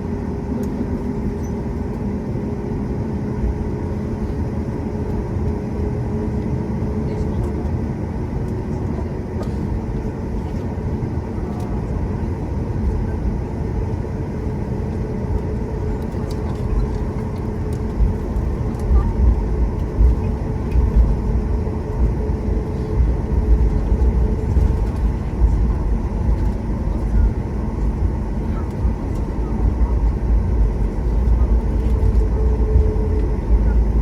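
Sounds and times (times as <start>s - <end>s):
aircraft engine hum: 0.0s - 34.0s
deep cabin rumble: 0.0s - 34.0s.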